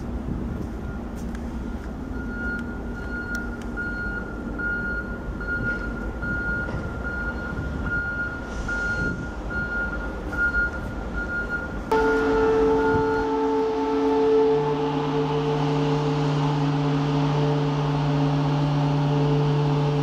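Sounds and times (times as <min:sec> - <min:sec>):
diesel locomotives idling: 0:00.0 - 0:20.0.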